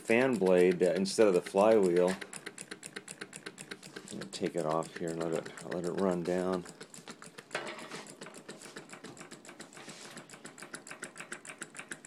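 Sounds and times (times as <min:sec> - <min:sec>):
small engine fast ticking: 0:00.0 - 0:12.0.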